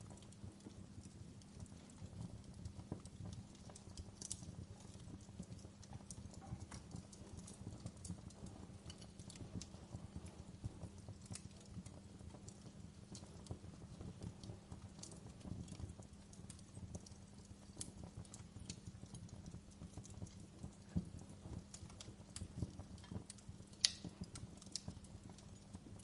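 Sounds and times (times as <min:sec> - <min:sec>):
fire popping and snapping: 0:00.0 - 0:26.0
fire rumbling: 0:00.0 - 0:26.0.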